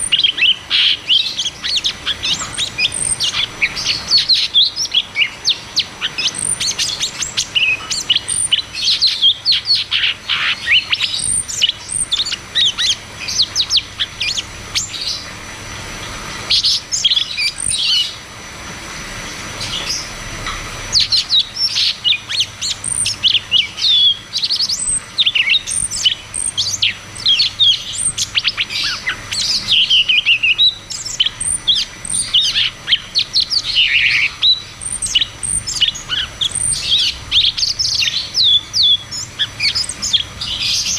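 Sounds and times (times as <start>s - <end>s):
bird chirping and whistling: 0.0s - 15.3s, 16.4s - 18.2s, 19.6s - 20.1s, 20.9s - 40.9s.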